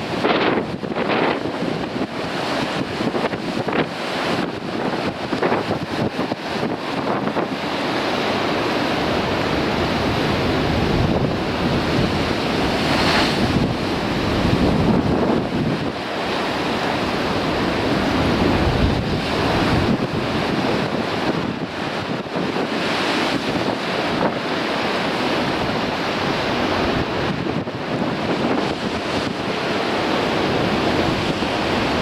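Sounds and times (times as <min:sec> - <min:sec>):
surf breaking on rocks: 0:00.0 - 0:32.0
wind buffeting microphone: 0:00.0 - 0:32.0.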